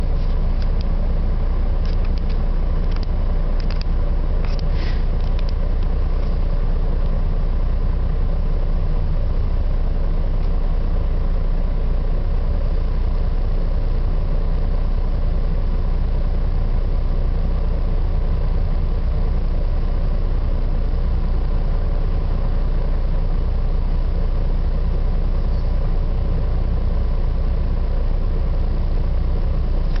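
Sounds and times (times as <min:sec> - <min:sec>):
road noise: 0:00.0 - 0:30.0
vehicle engine rumble: 0:00.0 - 0:30.0.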